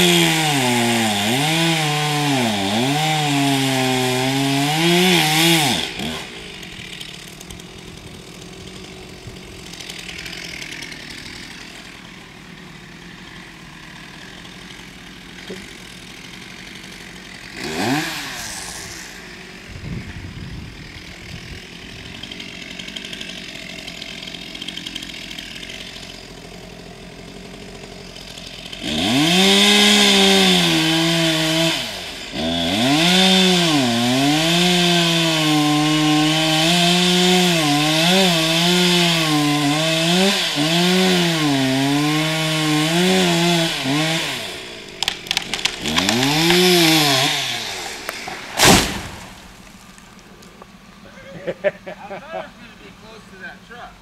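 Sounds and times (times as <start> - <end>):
chainsaw cutting a tree trunk: 0.0 - 53.9.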